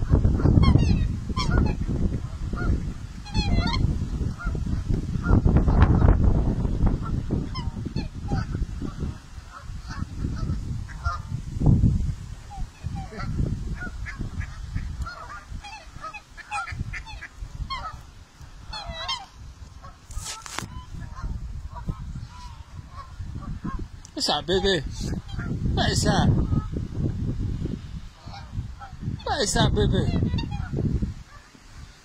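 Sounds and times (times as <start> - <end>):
geese honking: 0.0 - 11.4, 12.4 - 26.9, 28.1 - 32.0.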